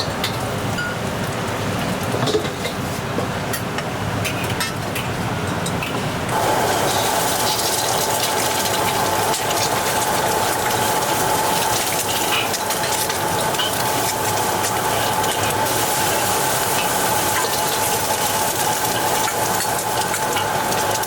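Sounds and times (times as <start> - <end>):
kitchen cooking hiss: 0.0 - 21.0.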